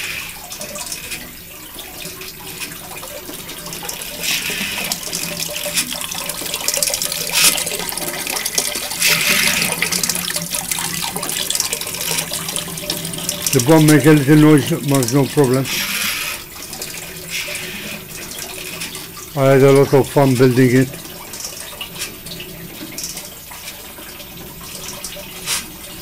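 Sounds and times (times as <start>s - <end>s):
water gushing and splashing: 0.0s - 26.0s.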